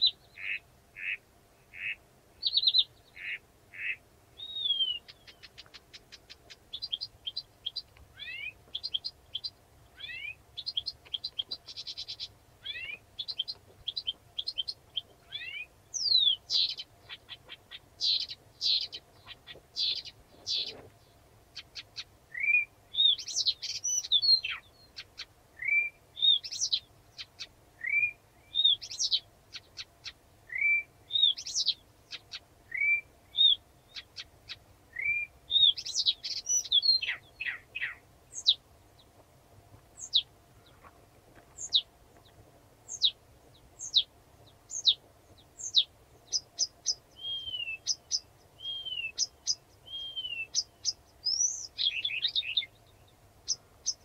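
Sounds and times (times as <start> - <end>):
warbler singing: 0.0 - 39.1, 39.9 - 54.0.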